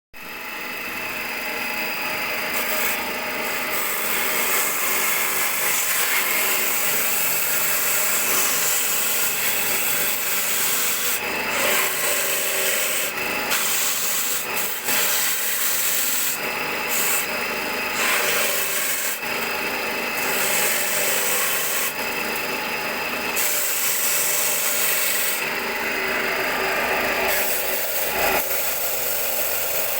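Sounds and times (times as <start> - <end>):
electric motor hum: 0.2 - 29.9
grater rasping and scraping: 2.4 - 22.5, 23.2 - 25.7, 27.2 - 29.9.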